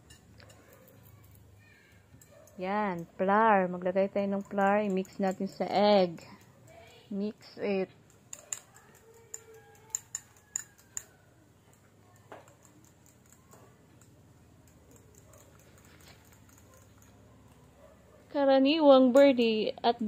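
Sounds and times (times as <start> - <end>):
utensil clicking on metal bowl: 0.0 - 17.7.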